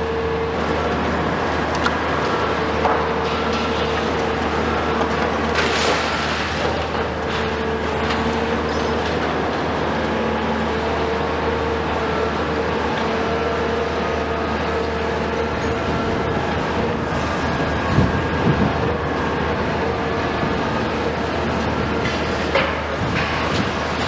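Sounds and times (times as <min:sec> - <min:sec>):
diesel engine running with whine: 0:00.0 - 0:24.0.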